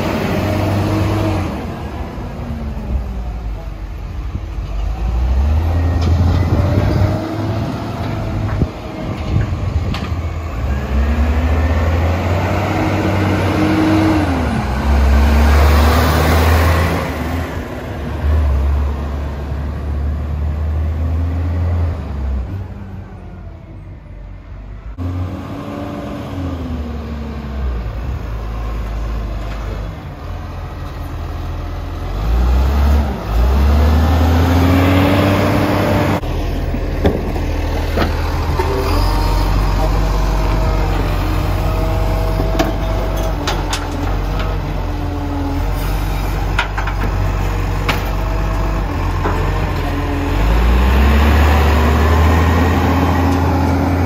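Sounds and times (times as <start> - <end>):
garbage truck engine revving: 0.0 - 3.7, 4.6 - 23.3, 31.3 - 54.0.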